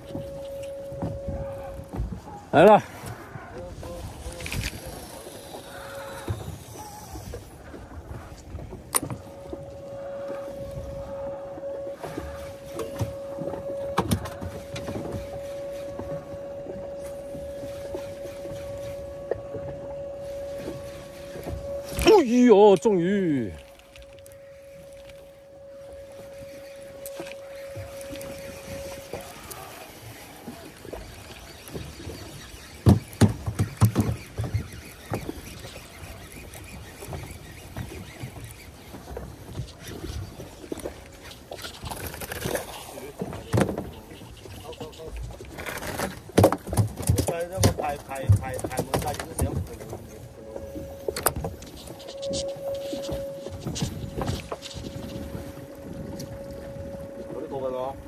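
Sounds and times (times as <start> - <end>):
water and wind rushing: 0.0 - 58.0.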